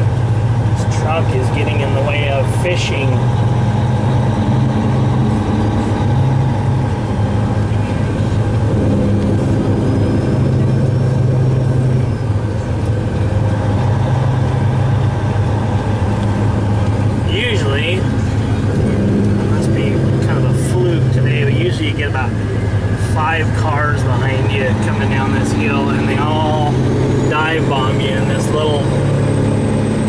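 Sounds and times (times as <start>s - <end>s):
road noise: 0.0s - 30.0s
truck engine humming: 0.0s - 30.0s.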